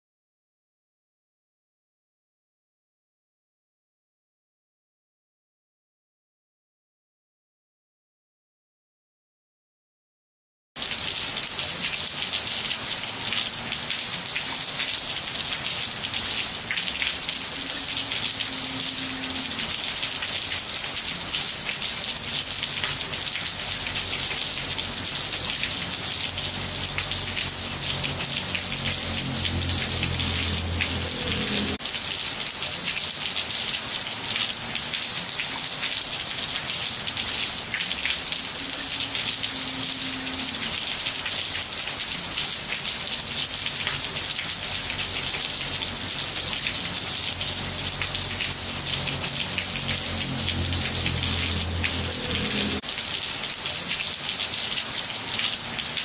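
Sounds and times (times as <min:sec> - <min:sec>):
rain falling on tiles: 0:10.8 - 0:56.0.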